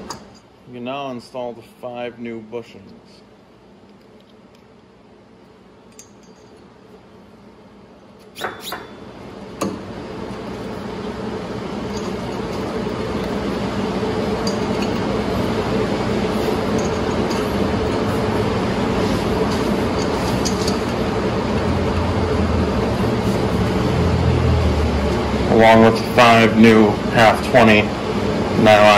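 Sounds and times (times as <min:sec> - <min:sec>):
steady mechanical hum: 0:00.0 - 0:28.9.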